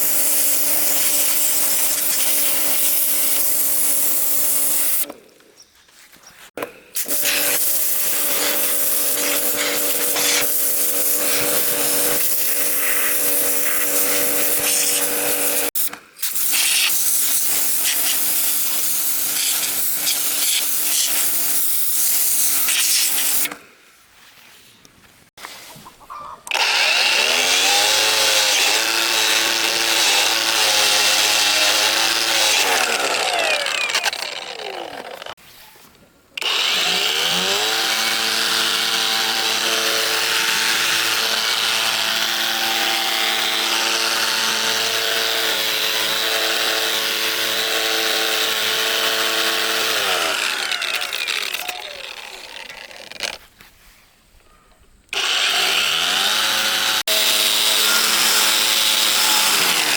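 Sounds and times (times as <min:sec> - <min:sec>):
power tool whining: 0:00.0 - 0:05.2, 0:06.6 - 0:23.6, 0:26.5 - 0:35.4, 0:36.4 - 0:53.5, 0:55.1 - 0:59.9.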